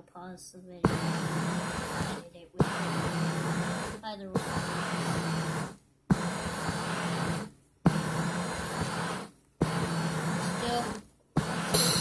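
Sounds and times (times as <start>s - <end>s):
massager motor humming: 0.9s - 12.0s.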